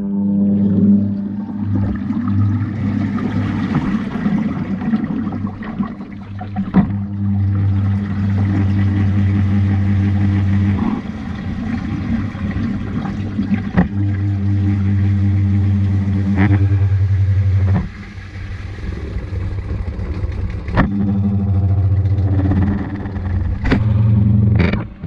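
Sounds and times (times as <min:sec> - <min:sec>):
washing machine motor hum: 0:00.0 - 0:24.6
water sloshing: 0:00.6 - 0:25.0.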